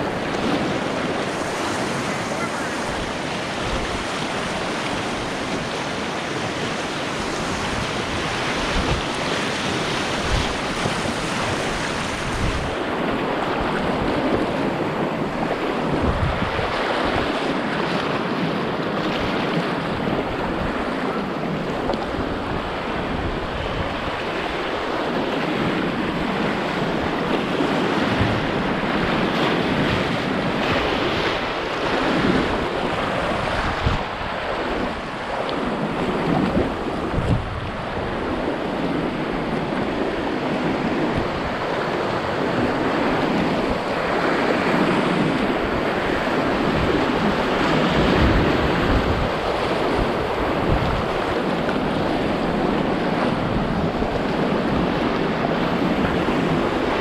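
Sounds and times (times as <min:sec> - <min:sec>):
river water rushing over rapids: 0:00.0 - 0:57.0
wind buffeting microphone: 0:00.0 - 0:57.0.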